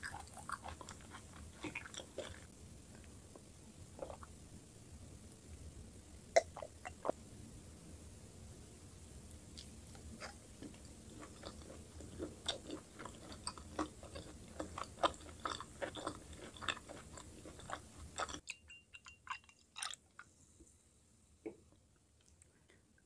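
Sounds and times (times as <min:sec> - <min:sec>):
background hum: 0:00.0 - 0:23.0.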